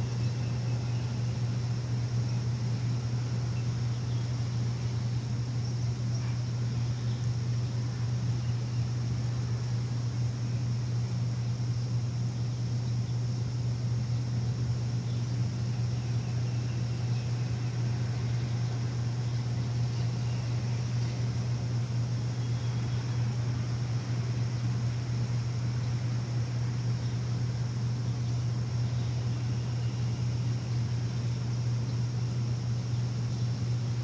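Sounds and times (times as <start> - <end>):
machine humming: 0.0 - 34.0
steady hiss: 0.0 - 34.0.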